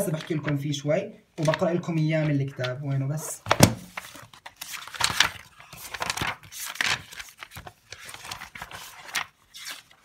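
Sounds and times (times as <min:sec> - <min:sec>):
book pages flipping: 0:01.4 - 0:10.0.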